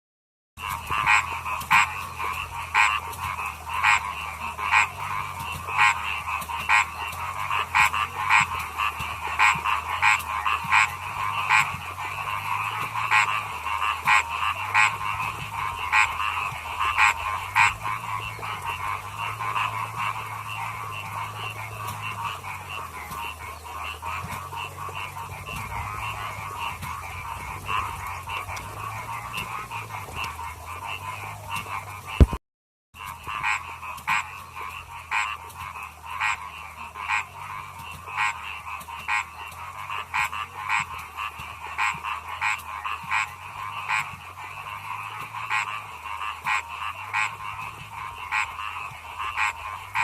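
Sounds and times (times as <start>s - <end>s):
chorus of frogs croaking: 0.6s - 32.4s, 33.0s - 50.0s.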